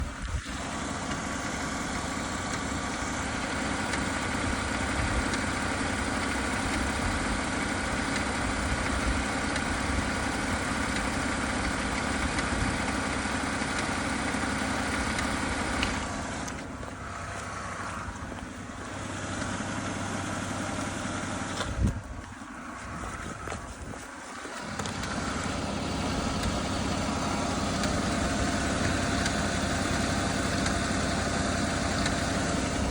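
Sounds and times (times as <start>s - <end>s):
car engine running with clicking: 0.0s - 32.9s.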